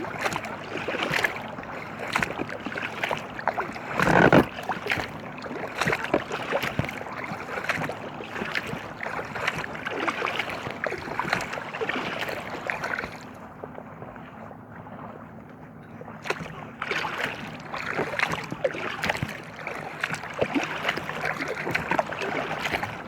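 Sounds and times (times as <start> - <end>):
kayak paddle splashing in water: 0.0 - 14.1, 16.0 - 23.0.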